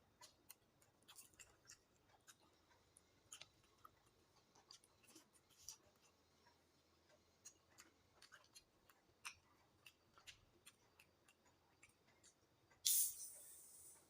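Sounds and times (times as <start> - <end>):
wet chewing clicks: 0.0 - 12.8.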